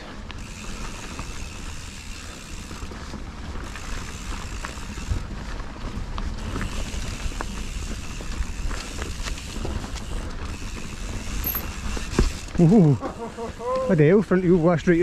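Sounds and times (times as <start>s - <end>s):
bike rattling: 0.0s - 15.0s
bike tyre and wind noise: 0.0s - 15.0s.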